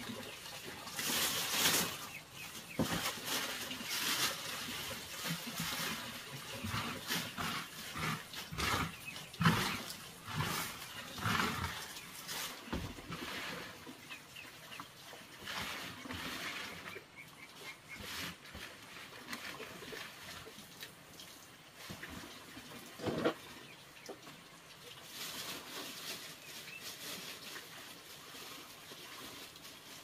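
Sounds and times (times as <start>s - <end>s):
water splashing: 0.0s - 30.0s.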